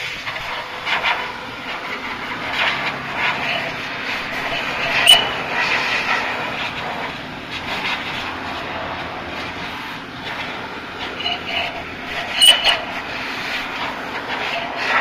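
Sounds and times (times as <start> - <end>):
machine running: 0.0 - 15.0.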